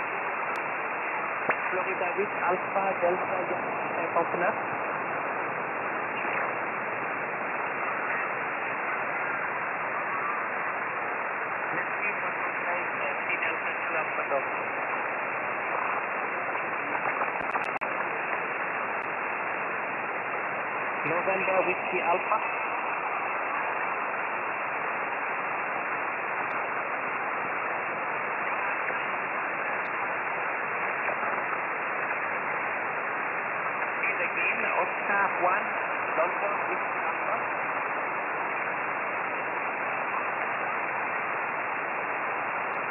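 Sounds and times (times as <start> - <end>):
radio band noise hiss: 0.0 - 42.9.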